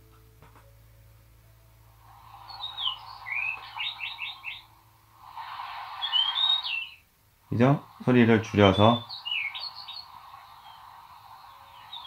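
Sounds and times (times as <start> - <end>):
soft background hush: 0.0 - 12.0
recorded birdsong chirps: 1.7 - 12.0.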